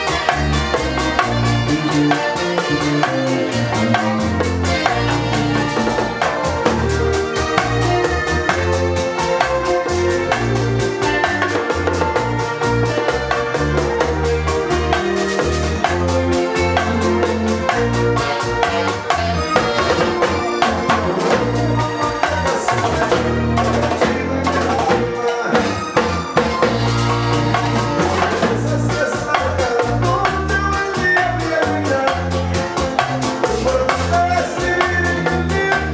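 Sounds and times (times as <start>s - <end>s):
drums and percussion: 0.0s - 35.9s
live band playing: 0.0s - 35.9s.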